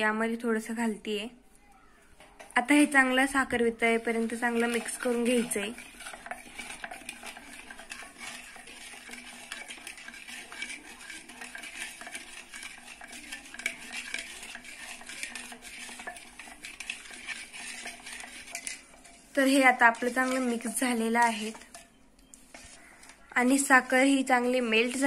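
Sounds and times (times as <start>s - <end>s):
liquid swishing in a bowl: 2.2s - 25.0s
spatula scraping metal bowl: 2.2s - 25.0s.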